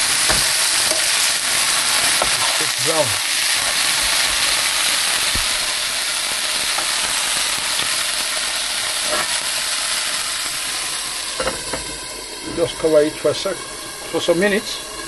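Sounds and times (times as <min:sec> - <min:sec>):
steak sizzling in a frying pan: 0:00.0 - 0:15.0.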